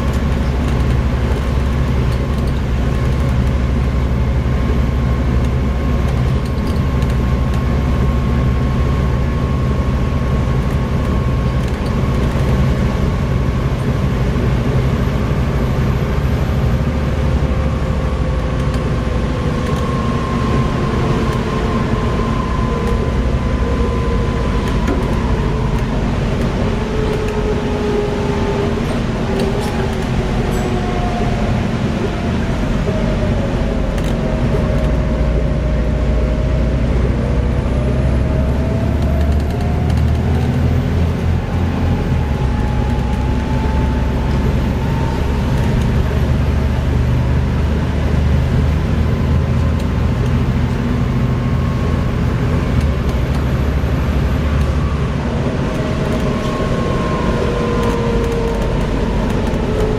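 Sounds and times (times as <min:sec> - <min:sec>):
bus diesel engine drone: 0:00.0 - 0:59.9
thin drivetrain whine: 0:00.0 - 0:59.9.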